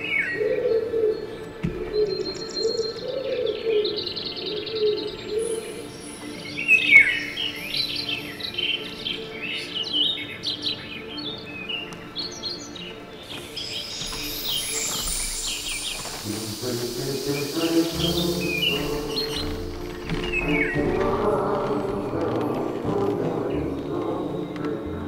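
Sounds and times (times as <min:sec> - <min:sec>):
birdsong with chirps and trills: 0:00.0 - 0:25.0.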